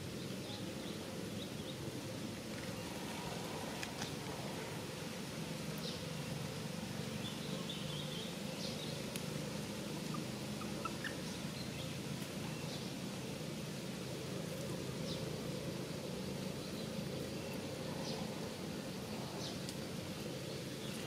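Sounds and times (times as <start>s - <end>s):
low outdoor hum: 0.0s - 21.0s.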